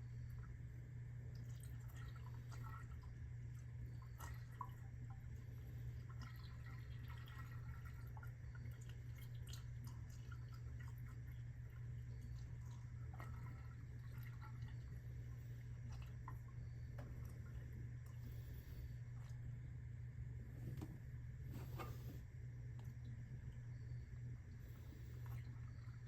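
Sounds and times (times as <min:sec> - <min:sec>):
oil trickling through a funnel: 0:00.0 - 0:26.0
steady low hum: 0:00.0 - 0:26.0.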